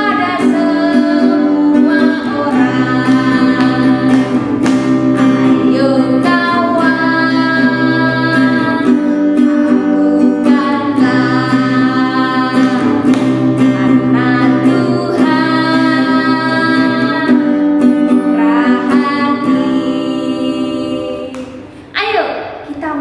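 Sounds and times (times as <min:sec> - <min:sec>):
woman singing: 0:00.0 - 0:21.7
guitar accompaniment: 0:00.0 - 0:21.9.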